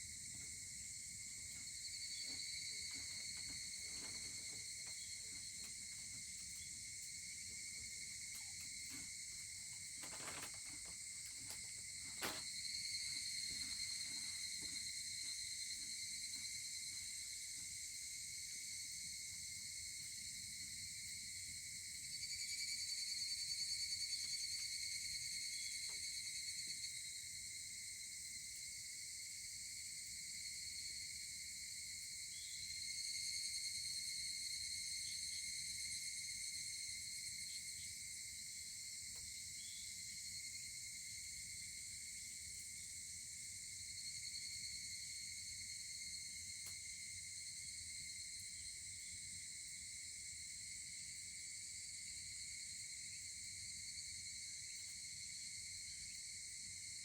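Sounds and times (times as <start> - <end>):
crickets and insects chirring: 0.0 - 57.0.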